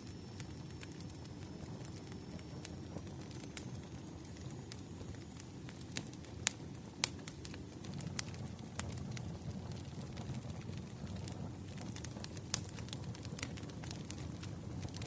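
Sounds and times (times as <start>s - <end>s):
low rumble of fire: 0.0s - 15.0s.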